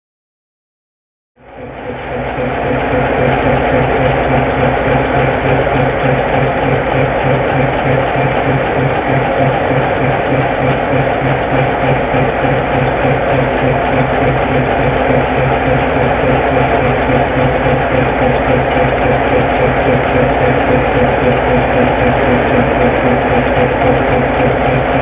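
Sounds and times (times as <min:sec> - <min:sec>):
locomotive diesel engine running: 0:01.4 - 0:25.0.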